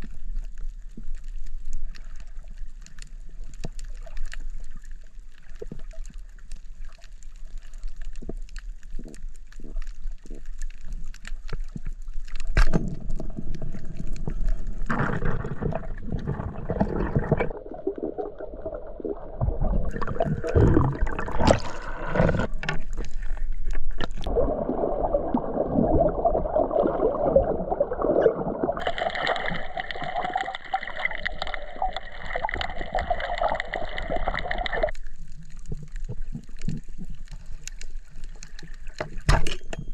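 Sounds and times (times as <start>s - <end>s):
underwater bubbling and sloshing: 0.0s - 39.9s.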